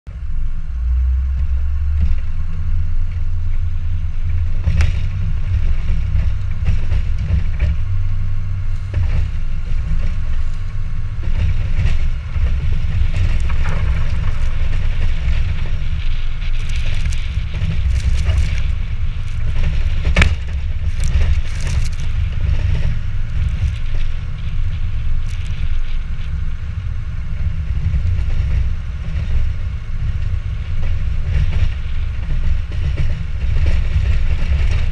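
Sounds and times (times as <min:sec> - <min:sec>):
diesel truck engine rumble: 0:00.0 - 0:34.9.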